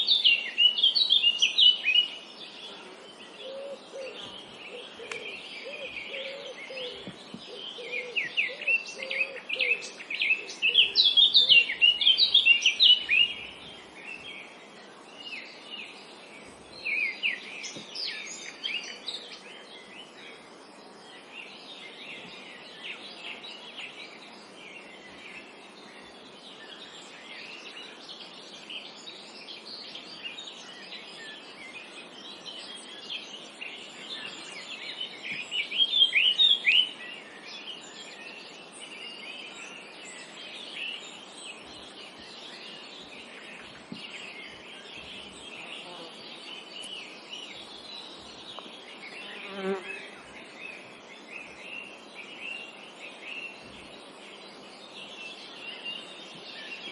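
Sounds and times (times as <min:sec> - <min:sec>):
loud rapid birdsong: 0:00.0 - 0:56.9
small birds chirping and singing: 0:00.0 - 0:56.9.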